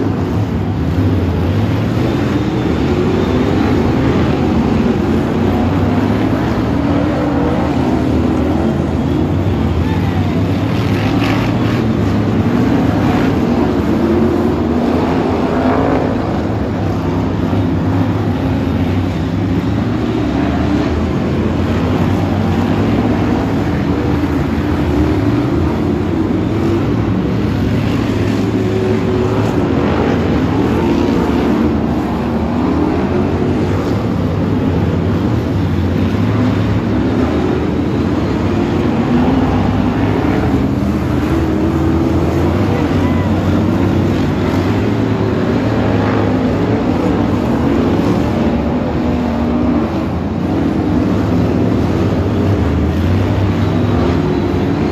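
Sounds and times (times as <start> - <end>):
racing car engines droning: 0.0 - 54.9.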